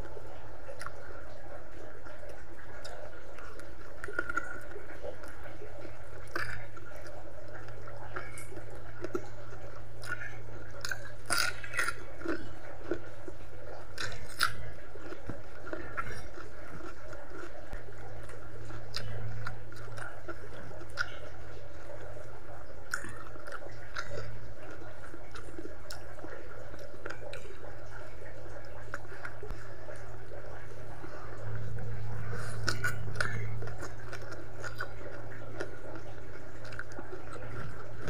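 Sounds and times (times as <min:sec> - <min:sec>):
steady low hum: 0:00.0 - 0:38.0
person chewing: 0:00.7 - 0:01.2, 0:02.0 - 0:38.0.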